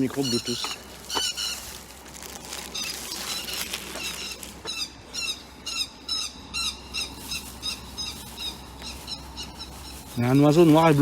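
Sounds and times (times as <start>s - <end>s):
birds calling harsh notes: 0.0s - 11.0s.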